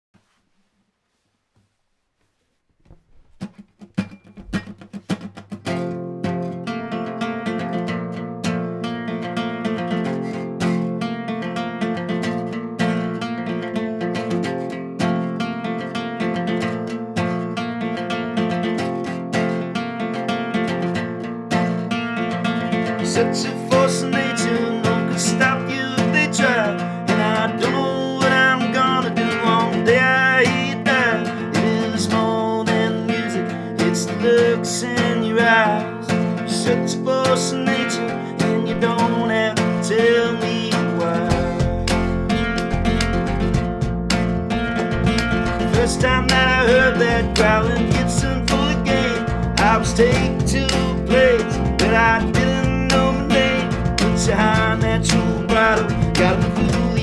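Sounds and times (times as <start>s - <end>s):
acoustic guitar strumming: 2.9s - 57.0s.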